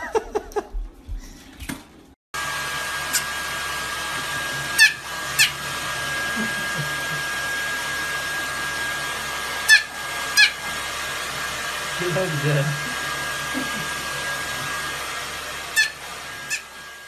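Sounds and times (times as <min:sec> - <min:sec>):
hair dryer blowing: 0:02.4 - 0:17.0.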